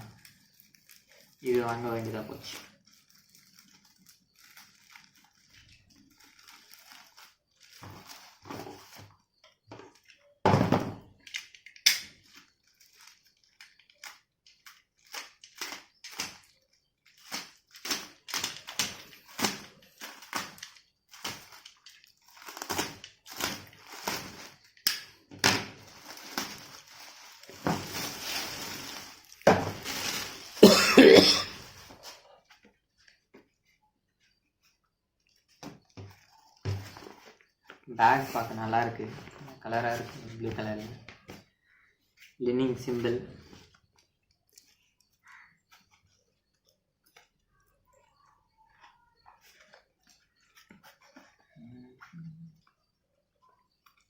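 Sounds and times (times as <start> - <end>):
plastic packaging rustling: 0.0 - 10.4, 11.2 - 47.6.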